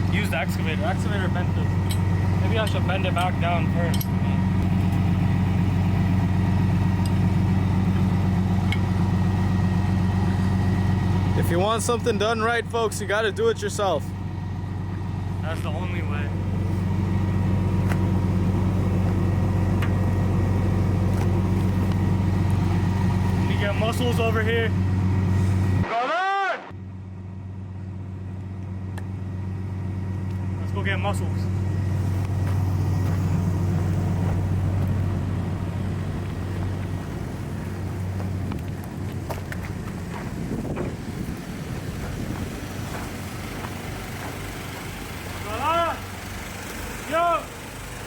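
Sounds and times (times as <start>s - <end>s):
engine rumbling: 0.0s - 48.0s.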